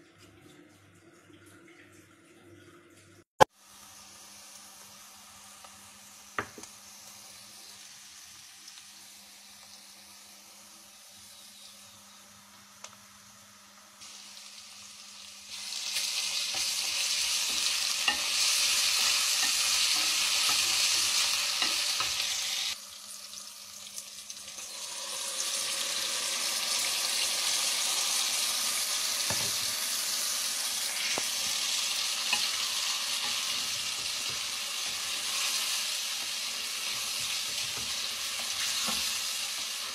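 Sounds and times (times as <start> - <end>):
food sizzling in hot oil: 3.4 - 39.9.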